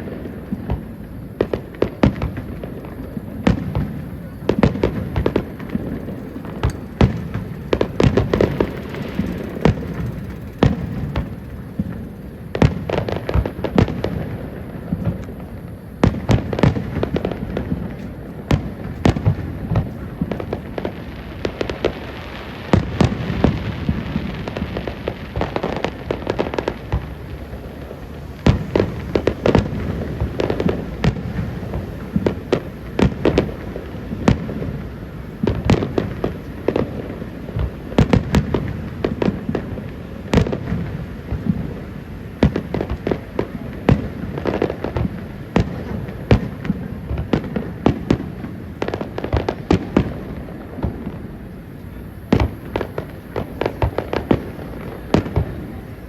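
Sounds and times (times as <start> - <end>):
fireworks bangs and booms: 0.0 - 56.0
fireworks crackle: 0.0 - 56.0.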